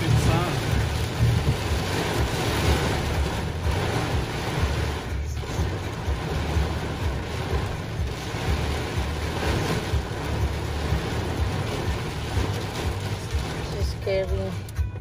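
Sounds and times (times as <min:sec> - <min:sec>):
low wind gust rumbling: 0:00.0 - 0:14.1
heavy rain on vehicle roof: 0:00.0 - 0:15.0.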